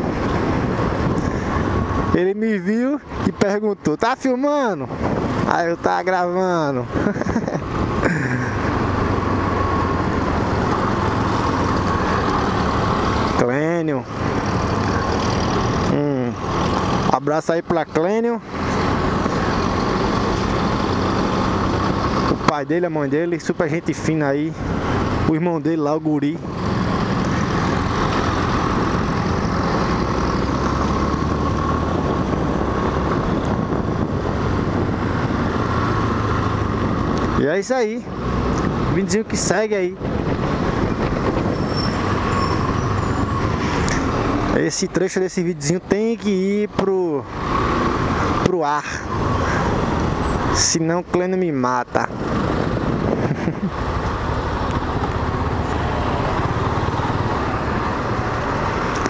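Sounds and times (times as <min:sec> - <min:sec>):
wind rushing over microphone: 0:00.0 - 0:22.6, 0:26.3 - 0:45.0, 0:51.8 - 0:59.0
surrounding car traffic: 0:00.0 - 0:59.0.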